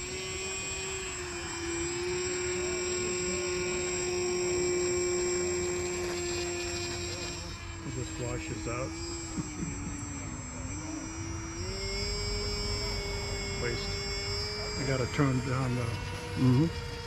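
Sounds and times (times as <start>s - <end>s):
model airplane motor whining: 0.0s - 17.0s.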